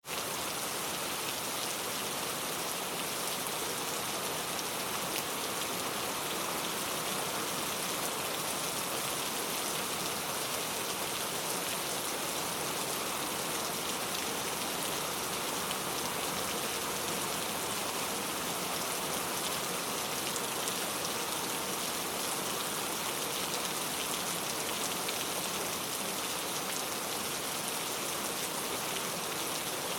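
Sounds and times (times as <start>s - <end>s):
steady rain falling: 0.0s - 29.9s.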